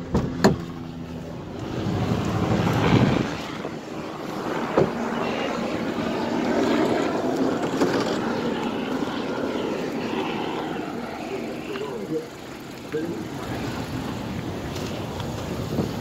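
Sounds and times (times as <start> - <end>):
motor vehicle running: 0.0 - 16.0.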